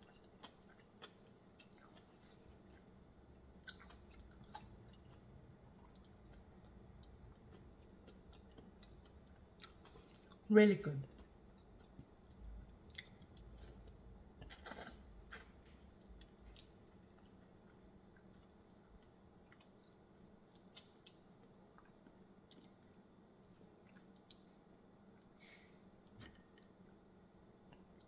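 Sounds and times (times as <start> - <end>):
soft chewing: 0.0 - 28.0.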